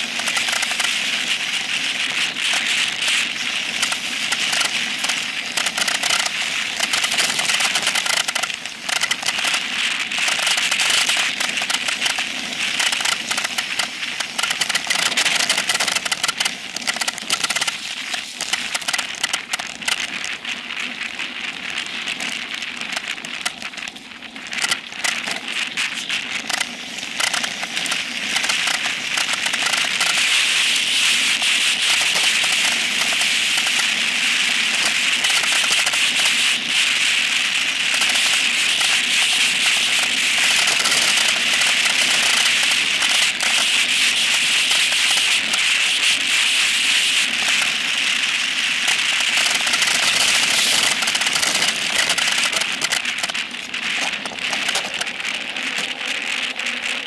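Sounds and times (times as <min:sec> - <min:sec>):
bike rattling on rough trail: 0:00.0 - 0:57.0
mountain bike tyres on loose dirt: 0:00.0 - 0:57.0.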